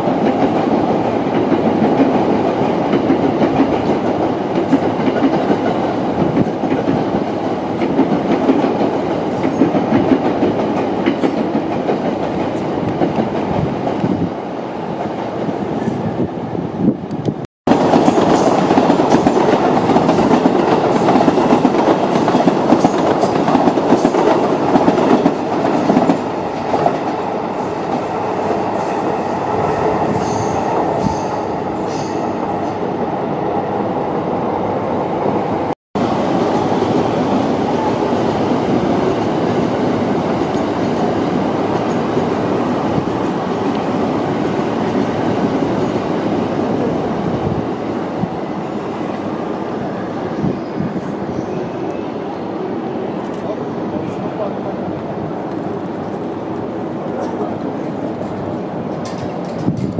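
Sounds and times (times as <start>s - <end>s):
electric train rumbling: 0.0s - 59.9s.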